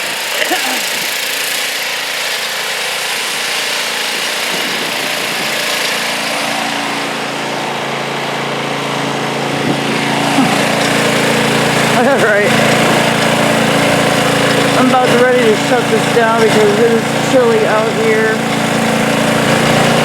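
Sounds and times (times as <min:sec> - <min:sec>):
garden tractor engine running: 0:00.0 - 0:20.0.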